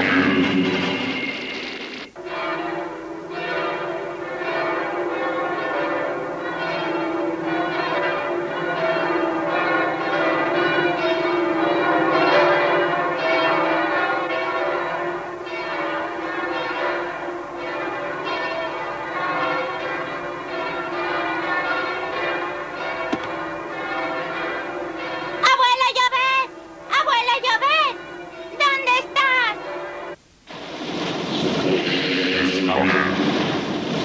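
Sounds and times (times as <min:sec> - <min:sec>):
church bells pealing: 0:00.0 - 0:30.2.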